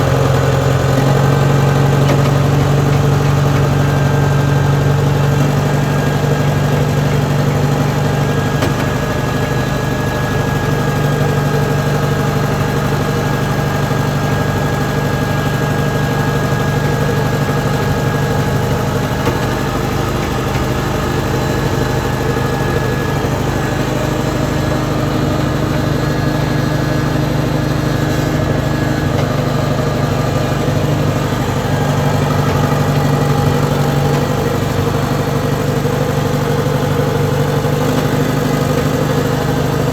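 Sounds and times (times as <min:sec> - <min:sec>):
track loader engine running: 0:00.0 - 0:39.9.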